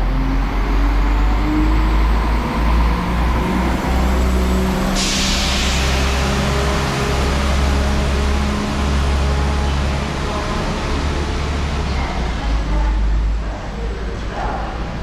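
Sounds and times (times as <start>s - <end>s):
diesel train engine droning: 0.0s - 15.0s.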